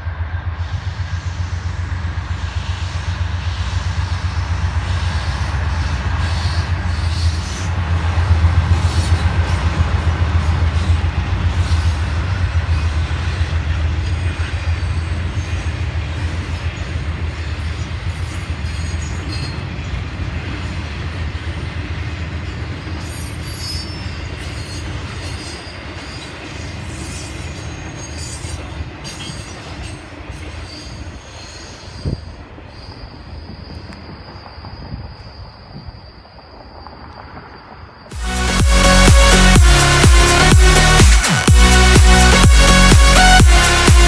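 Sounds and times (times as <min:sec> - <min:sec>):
train wheel squeal: 0:00.0 - 0:38.2
diesel locomotive engine rumble: 0:00.0 - 0:43.9.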